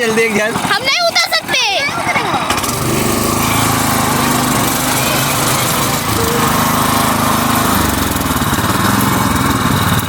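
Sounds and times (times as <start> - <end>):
small tractor engine running hard: 0.0 - 10.0.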